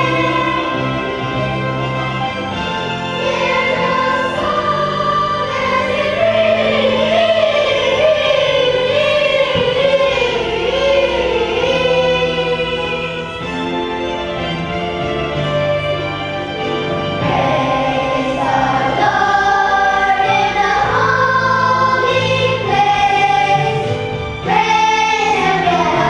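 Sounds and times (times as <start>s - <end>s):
children's choir singing: 0.0s - 26.0s
instrumental accompaniment: 0.0s - 26.0s.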